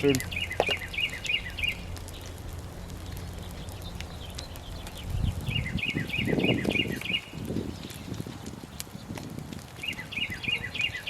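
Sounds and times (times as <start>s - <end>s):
songbird chirping: 0.0s - 8.0s, 9.8s - 11.0s
low noisy rumbling: 0.0s - 10.1s.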